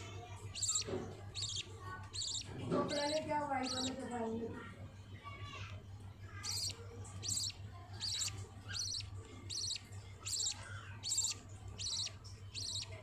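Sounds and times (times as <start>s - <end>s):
budgerigar chicks chirping: 0.2s - 4.1s, 6.4s - 13.0s.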